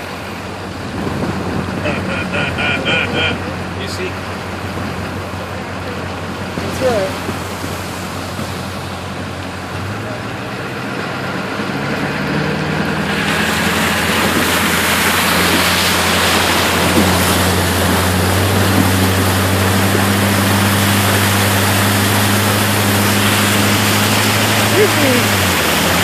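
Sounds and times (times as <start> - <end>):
floodwater rushing: 0.0 - 26.0
vehicle engine humming: 0.0 - 26.0.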